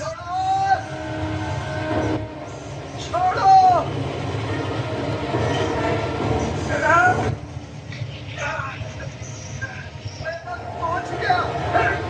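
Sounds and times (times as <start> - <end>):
vehicle rumbling: 0.0 - 12.0
sustained tones: 0.6 - 12.0.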